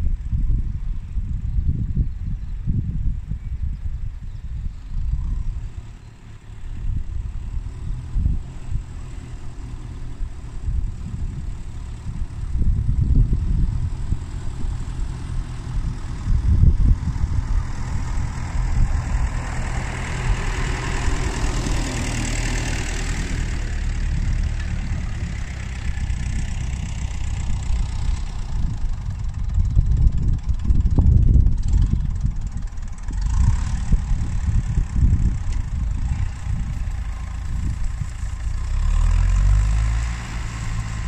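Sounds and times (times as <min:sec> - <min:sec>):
tractor diesel engine under load: 0:04.6 - 0:41.0.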